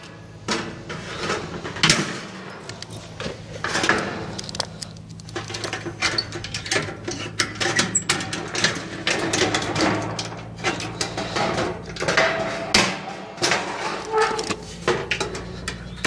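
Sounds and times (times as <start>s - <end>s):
metal roofing panels clanking: 0.0s - 16.0s
steady low hum: 0.0s - 16.0s.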